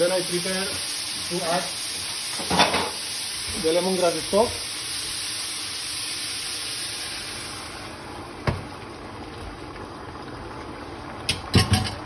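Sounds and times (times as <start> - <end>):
liquid hissing in hot pan: 0.0 - 10.3.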